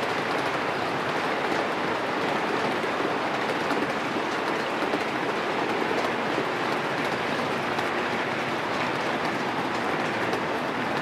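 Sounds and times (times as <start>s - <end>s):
faint rapid clicks: 0.0s - 11.0s
model train wheels on rail: 0.0s - 11.0s.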